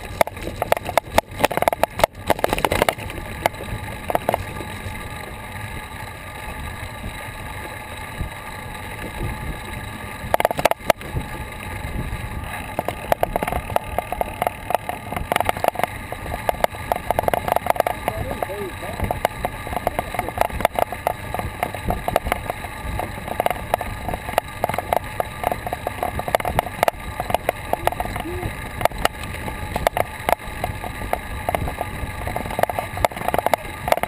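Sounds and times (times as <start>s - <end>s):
bicycle knocks and rattles: 0.0s - 34.0s
bicycle tyre noise on pavement: 0.0s - 34.0s.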